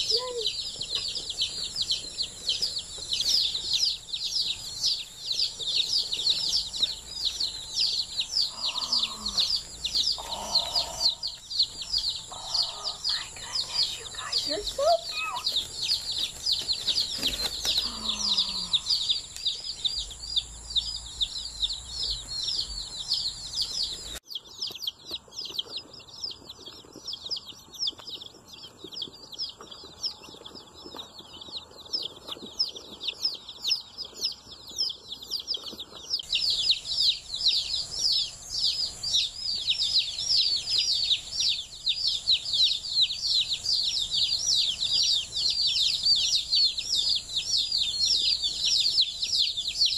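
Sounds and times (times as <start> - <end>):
baby chicks peeping: 0.0 - 49.9.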